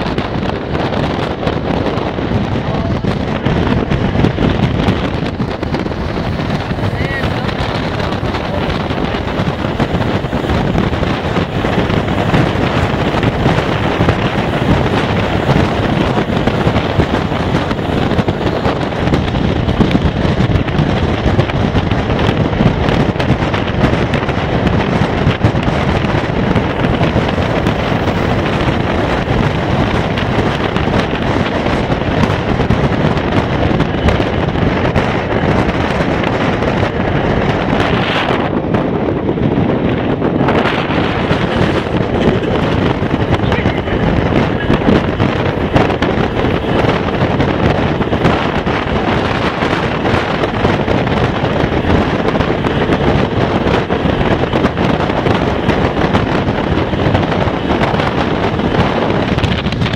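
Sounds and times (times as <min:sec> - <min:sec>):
train rumbling on track: 0:00.0 - 0:59.9
wind buffeting microphone: 0:00.0 - 0:59.9.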